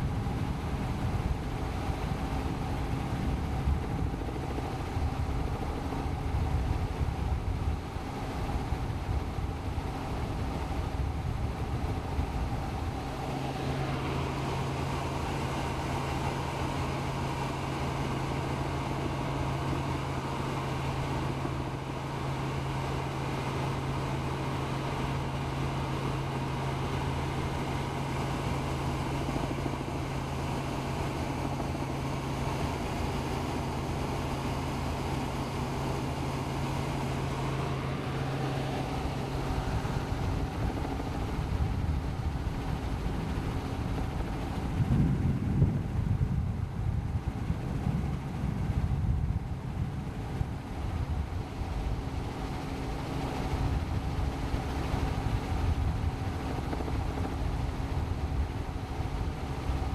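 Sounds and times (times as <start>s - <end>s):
helicopter engine and rotor: 0.0s - 59.9s
low hum: 0.0s - 59.9s.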